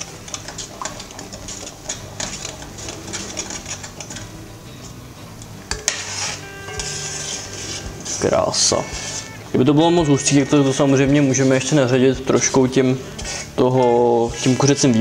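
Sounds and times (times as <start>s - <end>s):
spoon scraping a cooking pot: 0.0s - 15.0s.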